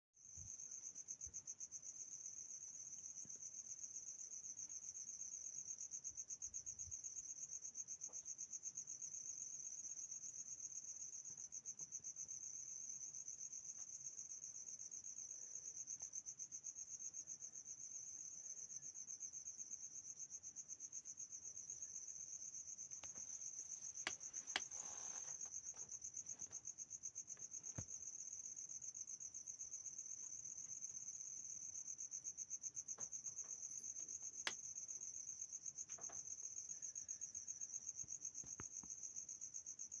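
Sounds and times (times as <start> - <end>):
crickets chirping: 0.2 - 40.0.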